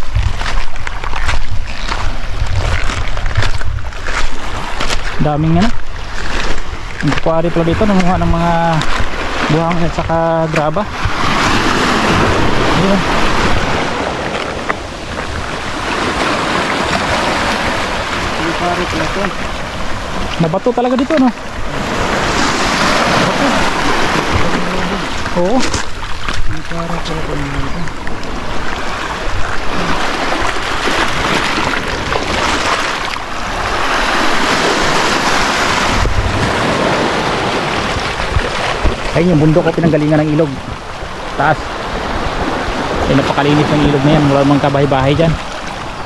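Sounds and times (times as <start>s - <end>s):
waves washing over pebbles: 0.0s - 46.0s.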